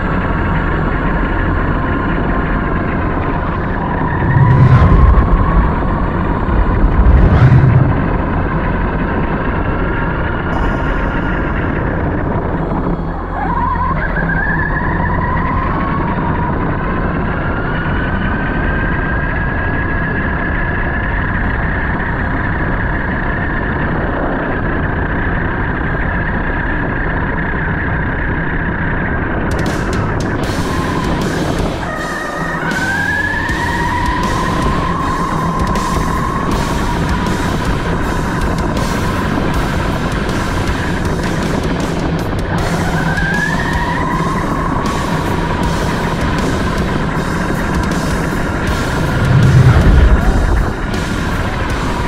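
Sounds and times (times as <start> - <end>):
loud low rumbles: 0.0 - 43.3, 43.9 - 52.0.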